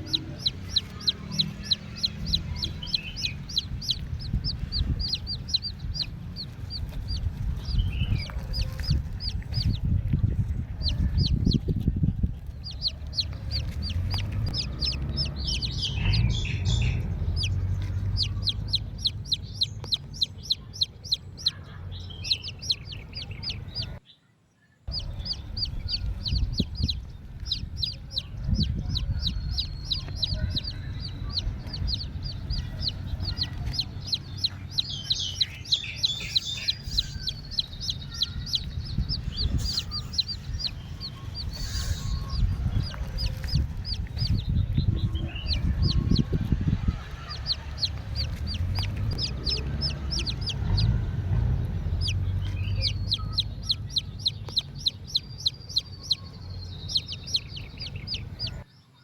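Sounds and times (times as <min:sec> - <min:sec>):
chicken-like clucking: 0:00.0 - 0:24.0, 0:24.9 - 0:58.6
low rumble: 0:00.0 - 0:24.0, 0:24.9 - 0:58.6.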